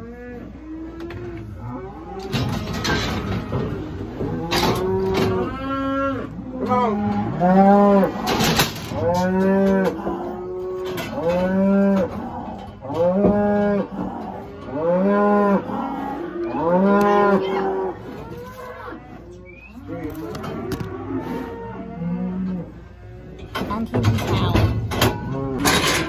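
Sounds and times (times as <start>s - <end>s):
cattle mooing: 0.0s - 23.6s, 24.5s - 26.0s.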